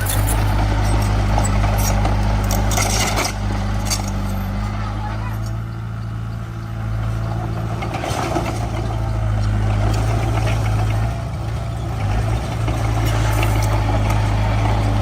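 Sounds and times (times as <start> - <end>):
heavy machinery diesel engine: 0.0 - 15.0.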